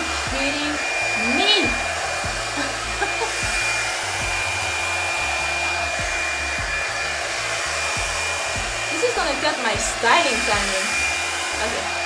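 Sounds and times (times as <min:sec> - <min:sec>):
blow dryer rushing air with whine: 0:00.0 - 0:12.0.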